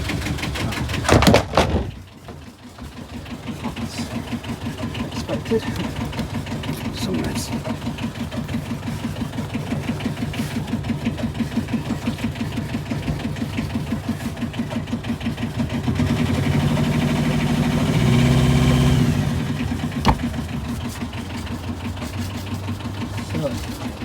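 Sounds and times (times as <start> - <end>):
boat diesel engine idling: 0.0 - 1.2, 1.8 - 24.0.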